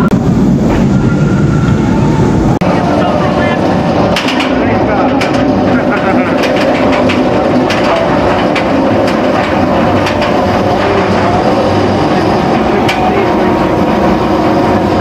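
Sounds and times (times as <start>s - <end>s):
roller coaster lift chain clatter: 2.7s - 15.0s.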